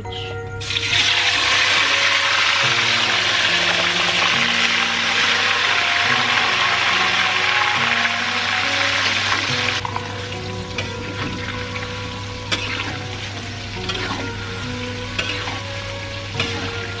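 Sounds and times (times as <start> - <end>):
food sizzling in hot oil: 0.6 - 17.0.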